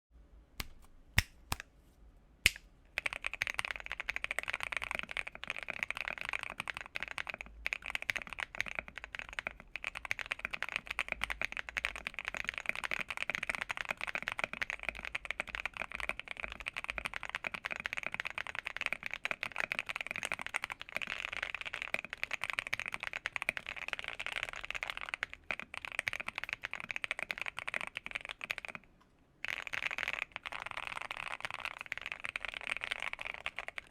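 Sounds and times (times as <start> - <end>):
mechanical keyboard typing: 3.0 - 28.8, 29.4 - 33.9.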